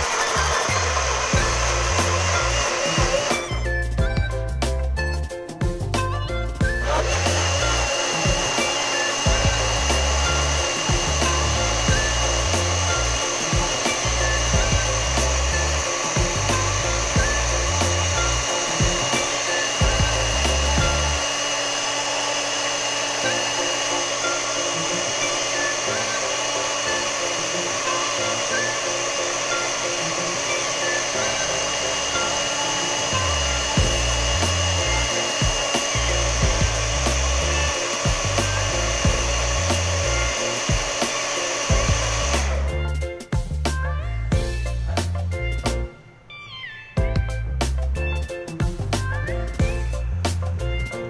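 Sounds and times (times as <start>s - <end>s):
blender motor whining: 0.0s - 4.4s, 6.4s - 43.0s.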